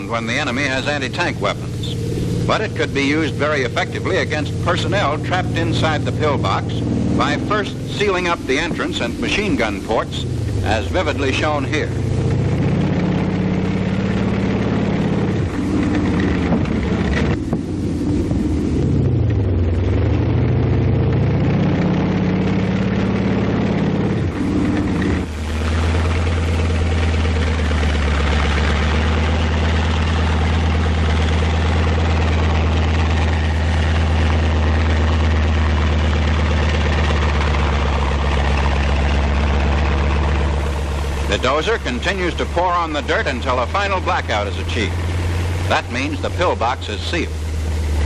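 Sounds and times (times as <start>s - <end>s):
tank engine running: 0.0s - 48.0s.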